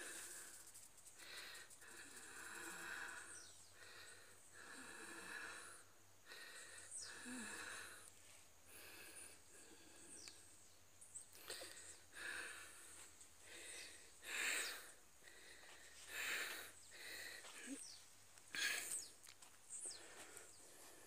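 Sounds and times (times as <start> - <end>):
person breathing hard: 0.0 - 10.6, 11.3 - 19.2, 19.8 - 21.0.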